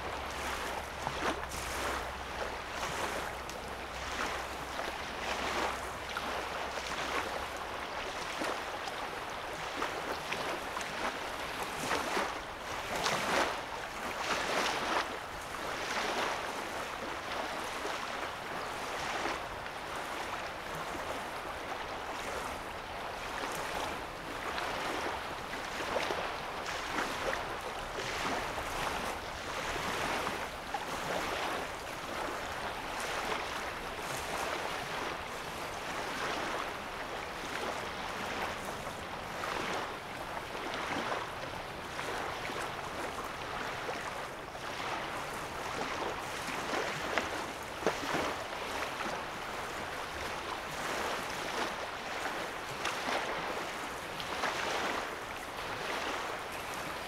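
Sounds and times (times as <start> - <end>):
small waves lapping on sand: 0.0 - 57.0.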